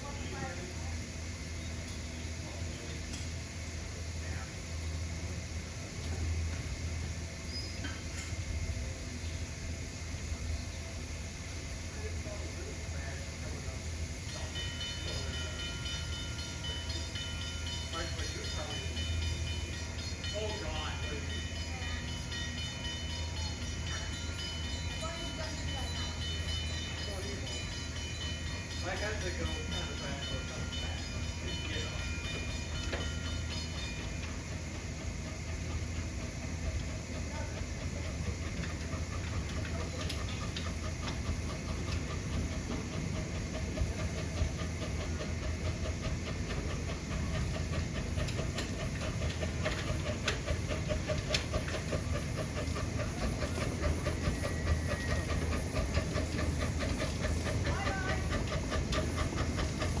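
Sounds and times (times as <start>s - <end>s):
steam hissing: 0.0s - 60.0s
train rumble: 0.0s - 60.0s.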